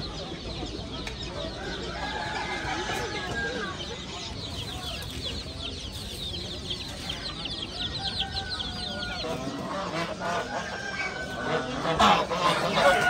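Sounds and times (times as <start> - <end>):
adult chickens clucking: 0.0 - 13.0
baby chicks peeping: 0.0 - 13.0.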